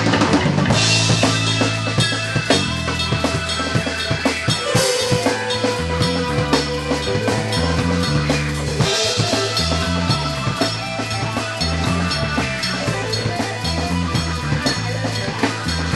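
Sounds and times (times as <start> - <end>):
bass line low notes: 0.0 - 15.9
drum kit beat: 0.0 - 15.9.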